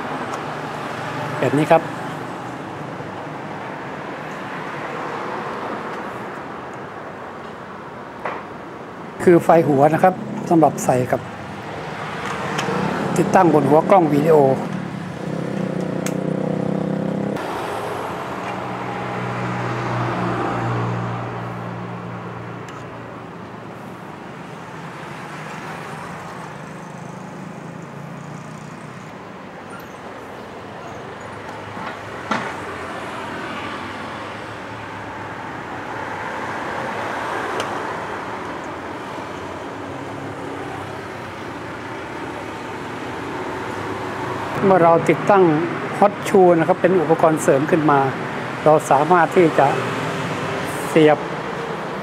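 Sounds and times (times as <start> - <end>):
road traffic passing: 0.0 - 52.0.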